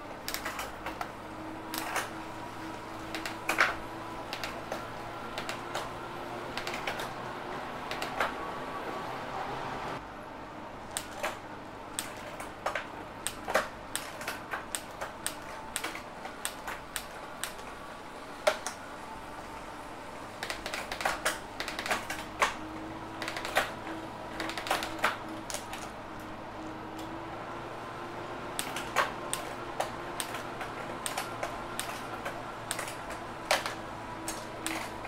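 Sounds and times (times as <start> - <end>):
bike trainer and chain whirring: 0.0 - 8.5, 11.0 - 35.0.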